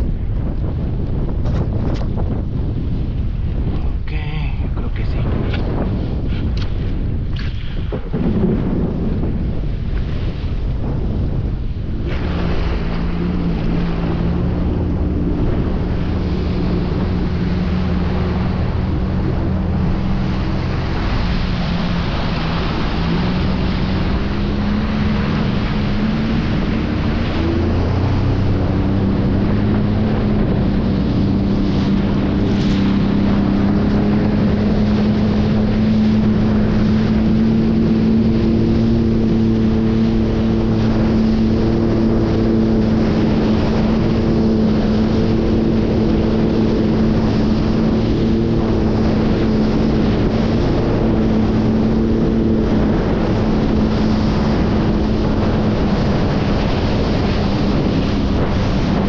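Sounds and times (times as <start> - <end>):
rush of water: 0.0 - 59.0
watercraft engine running: 0.0 - 59.0
wind on microphone: 0.0 - 59.0.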